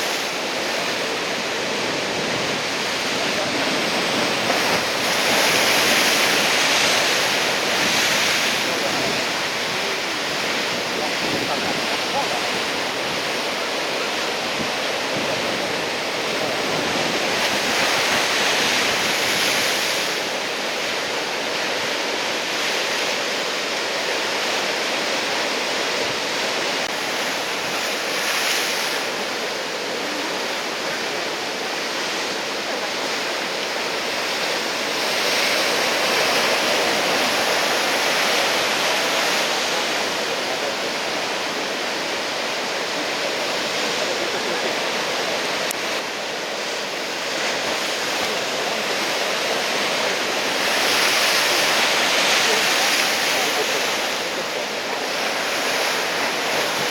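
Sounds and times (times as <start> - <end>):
surf breaking and washing in: 0.0 - 56.9.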